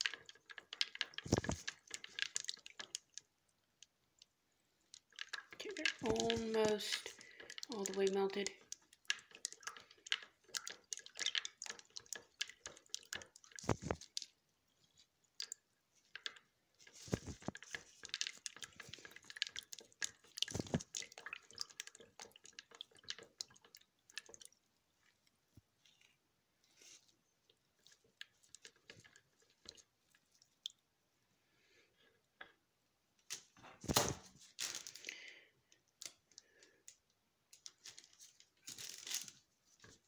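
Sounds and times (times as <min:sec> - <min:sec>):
utensil stirring in plastic pitcher: 0:00.0 - 0:30.9, 0:37.6 - 0:40.0.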